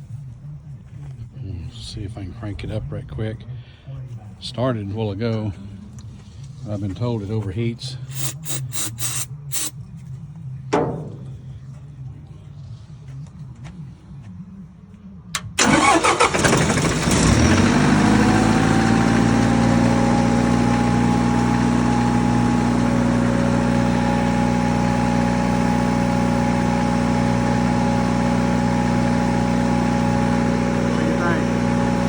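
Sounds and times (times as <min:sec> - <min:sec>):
diesel generator starting and running: 0:00.0 - 0:32.0.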